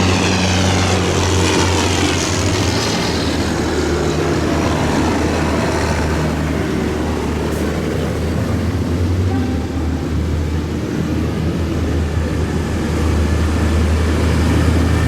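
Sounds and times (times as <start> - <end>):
tractor diesel engines running: 0.0 - 15.0.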